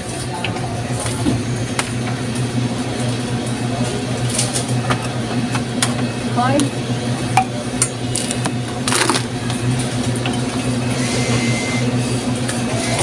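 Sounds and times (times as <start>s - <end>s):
low electrical hum: 0.0s - 10.8s.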